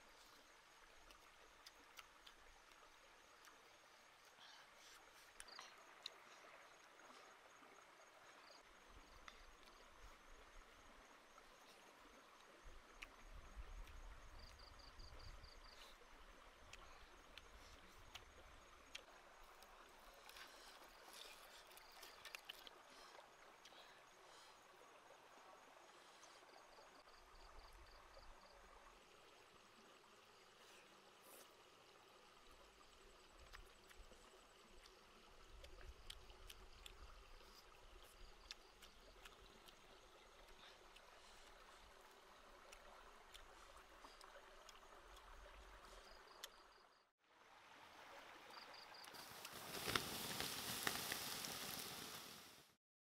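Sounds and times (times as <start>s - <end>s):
faint outdoor hiss: 0.0s - 52.8s.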